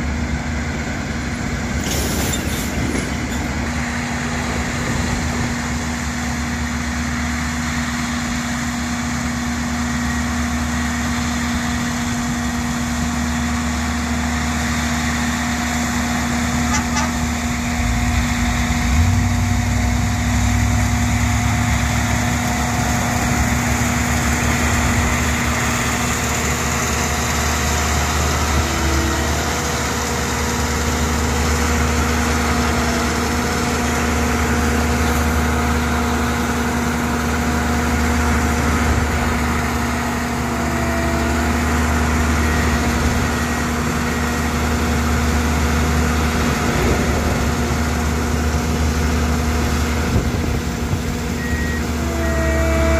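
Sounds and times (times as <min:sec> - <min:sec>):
machine engine running: 0:00.0 - 0:52.9.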